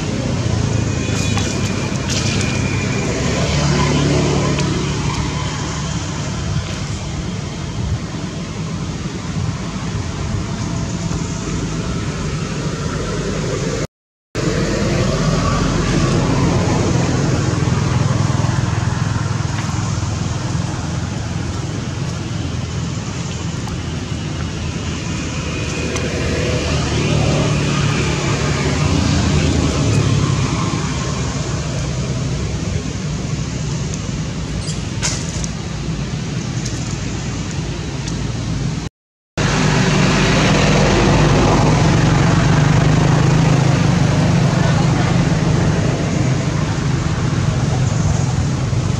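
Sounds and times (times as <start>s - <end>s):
vehicle engine hum: 0.0s - 48.9s.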